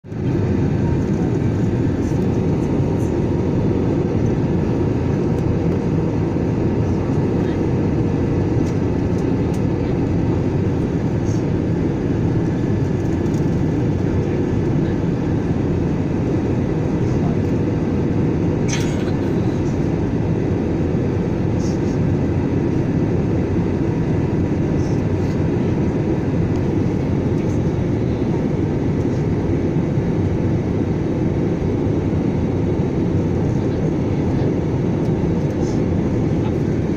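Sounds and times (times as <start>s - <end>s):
airliner cabin rumble: 0.0s - 36.9s
faint engine whine: 0.0s - 36.9s.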